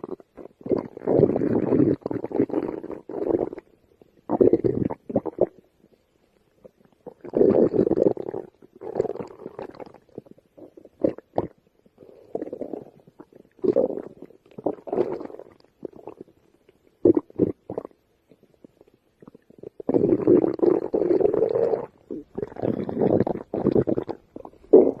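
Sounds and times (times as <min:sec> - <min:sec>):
stomach growling and gurgling: 0:00.0 - 0:25.0.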